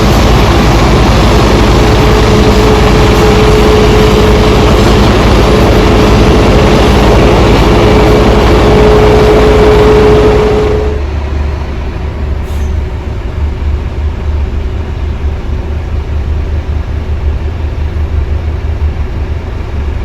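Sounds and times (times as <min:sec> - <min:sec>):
aircraft engines rumbling: 0:00.0 - 0:20.0.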